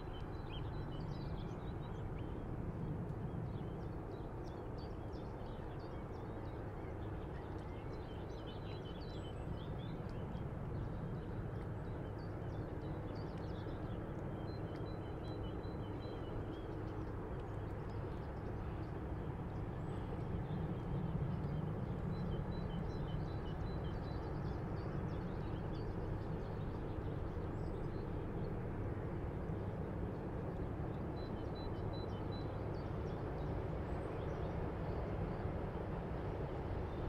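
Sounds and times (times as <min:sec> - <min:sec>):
light breeze: 0:00.0 - 0:37.0
low rumble of water: 0:00.0 - 0:37.0.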